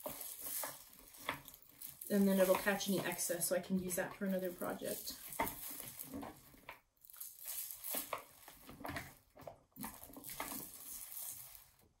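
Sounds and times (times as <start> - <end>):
birdseed rustling in plastic bowl: 0.0 - 9.1, 9.8 - 11.9.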